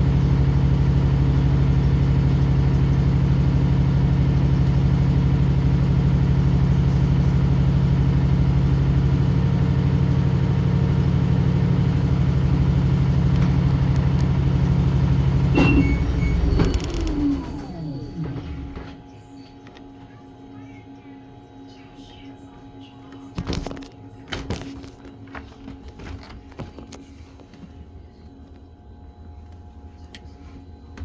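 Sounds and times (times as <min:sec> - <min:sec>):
washing machine spinning: 0:00.0 - 0:21.4, 0:22.0 - 0:31.0.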